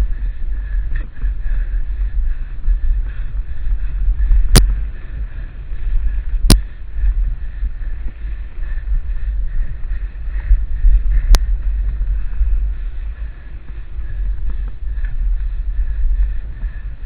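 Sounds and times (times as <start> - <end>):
wind rumble: 0.0 - 17.0.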